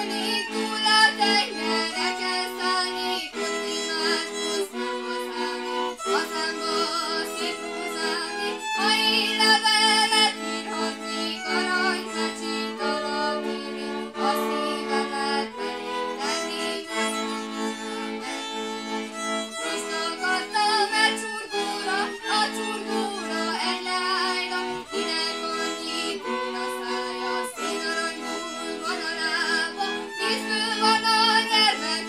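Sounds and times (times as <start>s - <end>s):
violins playing folk music: 0.0s - 32.0s
woman singing: 0.0s - 32.0s.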